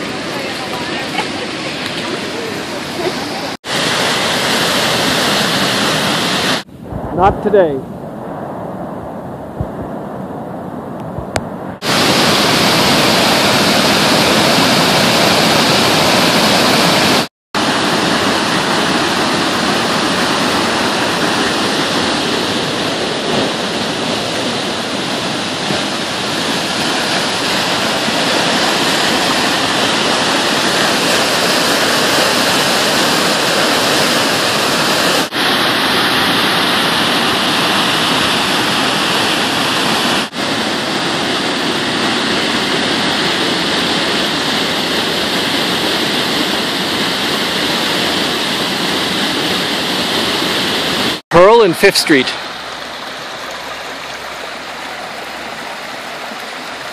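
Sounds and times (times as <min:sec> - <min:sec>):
whitewater rushing through rapids: 0:00.0 - 0:07.8, 0:11.7 - 0:56.9.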